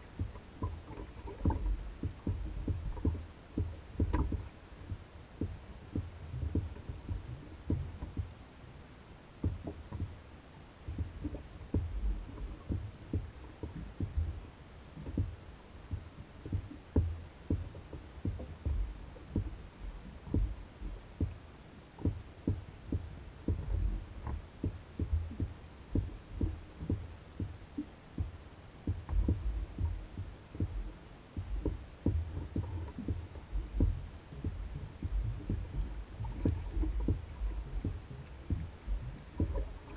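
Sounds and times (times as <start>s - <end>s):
waves slapping canoe hull: 0.0s - 39.9s.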